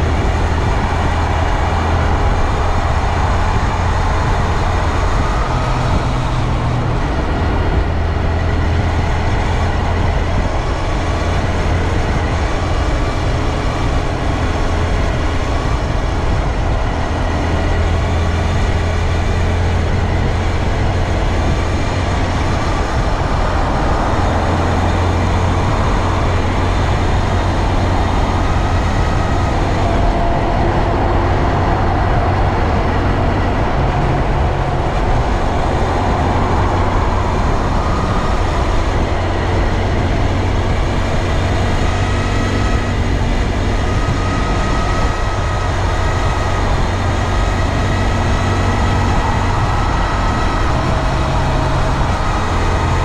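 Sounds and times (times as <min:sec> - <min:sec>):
faint wavering whines: 0:00.0 - 0:53.0
motorcycle engine running: 0:00.0 - 0:53.0
wind and road noise: 0:00.0 - 0:53.0.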